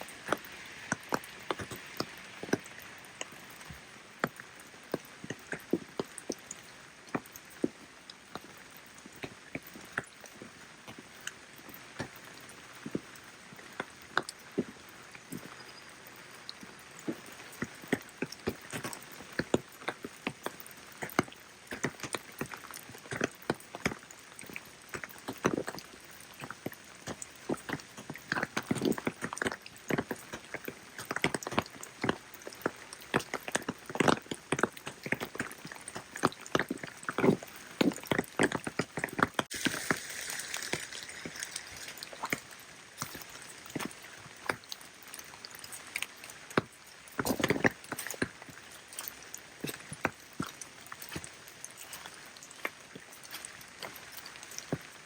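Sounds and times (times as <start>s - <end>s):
large raindrops splashing: 0.0s - 55.0s
light hiss of rain: 0.0s - 55.0s.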